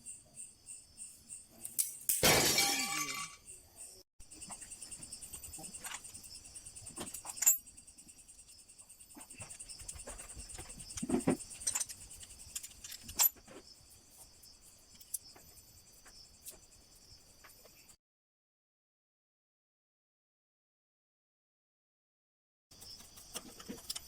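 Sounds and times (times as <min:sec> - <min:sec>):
crickets chirping: 0:00.0 - 0:18.0, 0:22.7 - 0:24.0.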